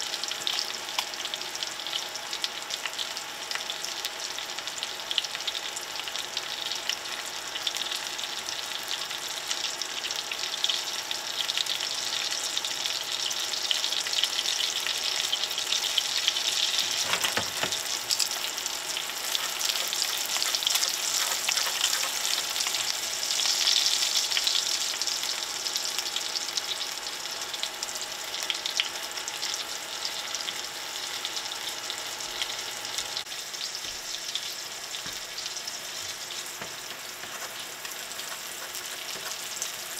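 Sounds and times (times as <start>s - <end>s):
scallops sizzling in a skillet: 0.0s - 39.9s.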